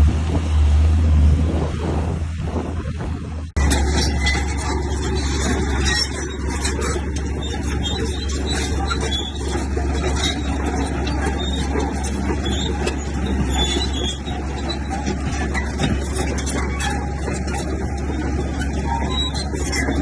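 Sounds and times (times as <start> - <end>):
bulldozer diesel engine rumbling: 0.0 - 20.0
rapid clatter of tracks: 3.6 - 20.0.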